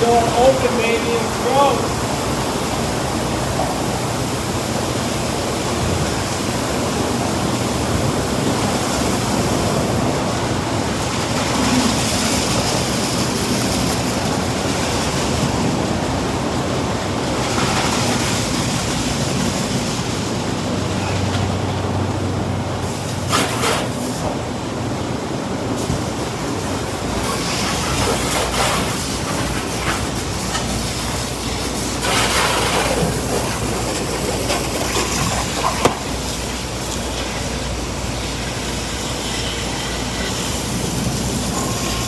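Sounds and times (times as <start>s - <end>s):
car wash machinery: 0.0s - 42.0s
spraying water: 0.0s - 42.0s.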